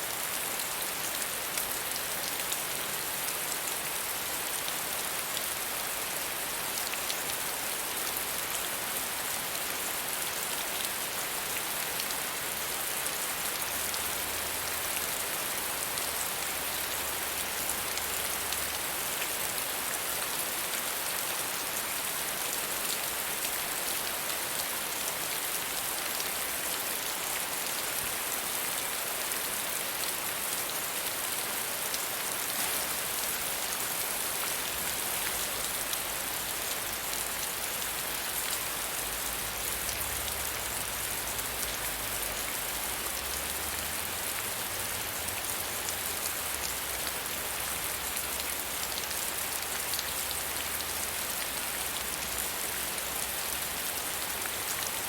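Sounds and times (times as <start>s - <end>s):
soft rain falling: 0.0s - 55.0s.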